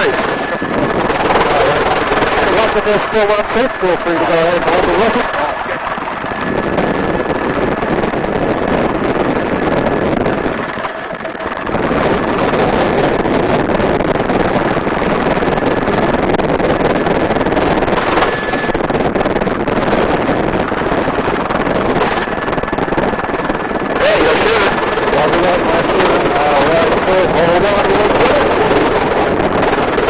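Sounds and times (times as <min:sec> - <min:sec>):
helicopter rotor and engine: 0:00.0 - 0:30.0
wind buffeting microphone: 0:00.0 - 0:30.0.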